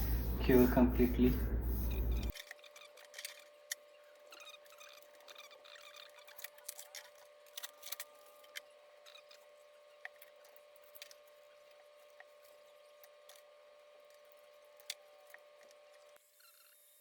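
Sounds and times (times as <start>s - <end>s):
faint steady hum: 0.0s - 16.6s.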